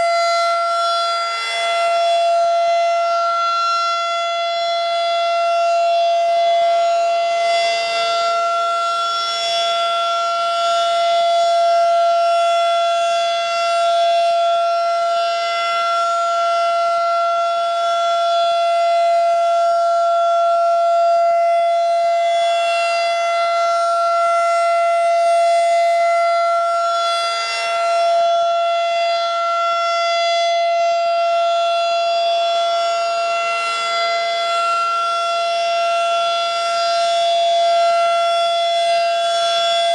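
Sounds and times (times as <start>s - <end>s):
rotating civil defense siren: 0.0s - 39.9s.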